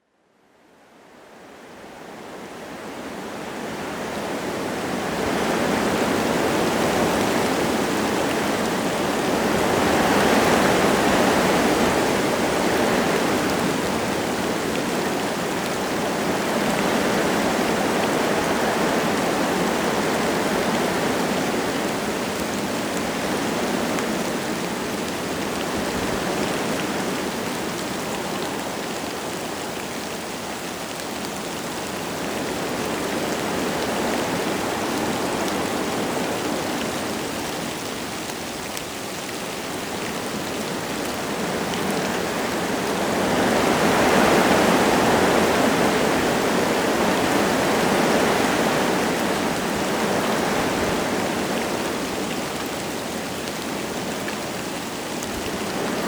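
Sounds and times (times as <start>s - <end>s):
light rain falling: 0.5s - 56.0s
wind gusting through trees: 1.0s - 56.0s.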